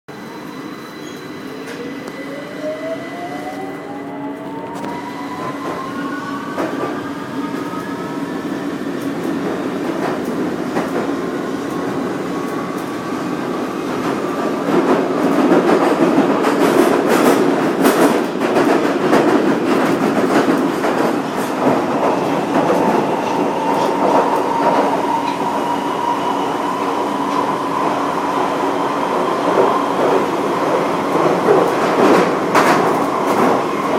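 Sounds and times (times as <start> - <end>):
train wheels running on rails: 0.3 - 33.9.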